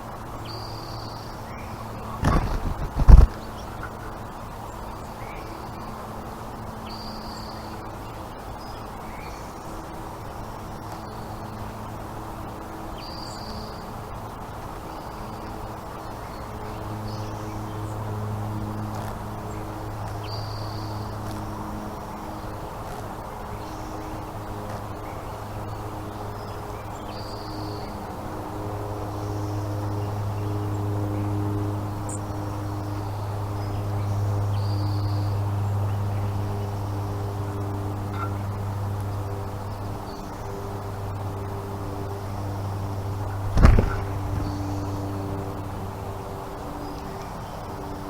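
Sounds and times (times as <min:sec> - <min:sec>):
low background noise: 0:00.0 - 0:48.0
steady low hum: 0:00.0 - 0:48.0.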